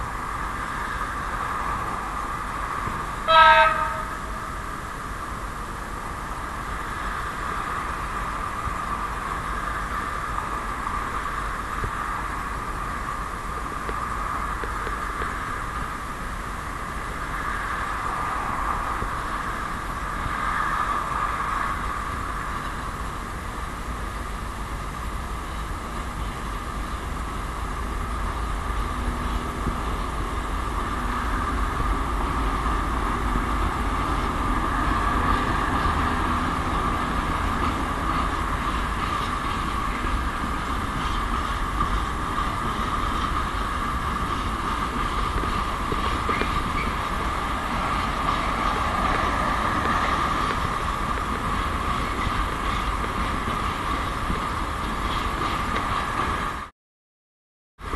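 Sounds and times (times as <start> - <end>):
diesel locomotive engine working hard: 0.0 - 56.7.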